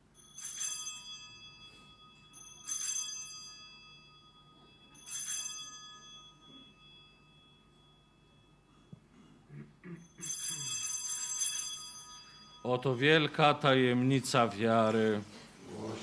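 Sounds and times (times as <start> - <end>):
altar bell ringing: 0.0 - 15.1.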